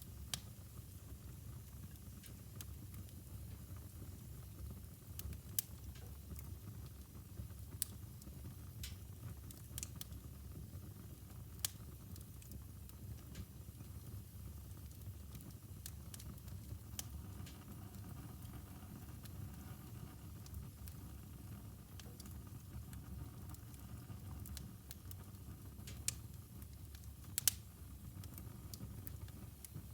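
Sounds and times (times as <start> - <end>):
fire crackles and pops: 0.0 - 29.9
fire rumbling in fireplace: 0.0 - 29.9.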